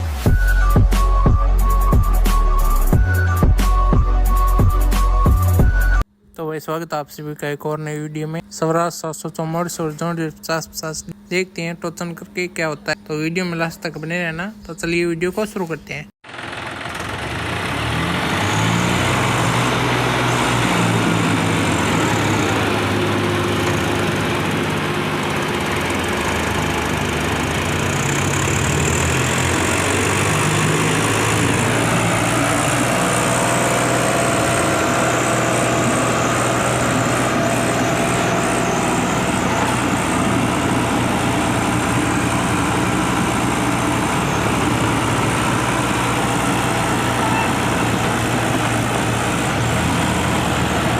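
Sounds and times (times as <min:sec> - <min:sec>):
diesel tractor engines under load: 0:08.5 - 0:50.9.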